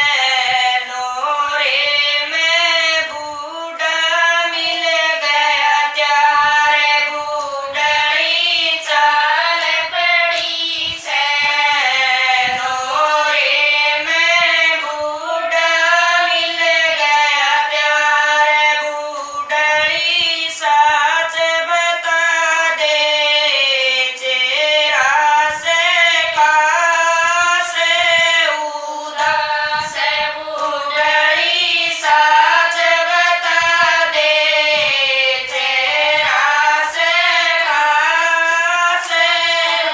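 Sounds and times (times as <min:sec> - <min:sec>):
women singing folk song: 0:00.0 - 0:39.9.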